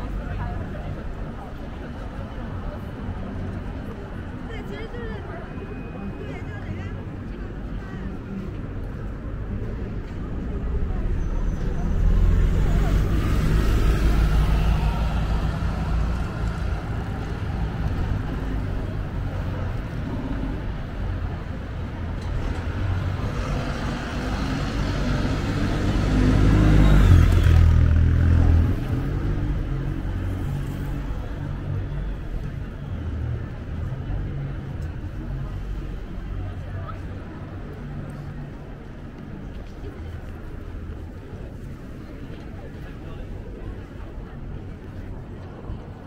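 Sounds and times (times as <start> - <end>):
bus rumbling past: 0.0 - 46.0
traffic hum: 0.0 - 46.0.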